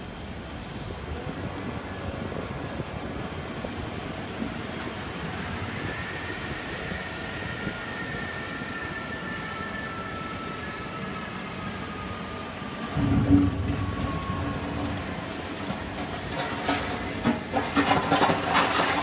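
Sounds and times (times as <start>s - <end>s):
jet engines running: 0.0s - 18.3s
turbine whine: 0.0s - 19.0s.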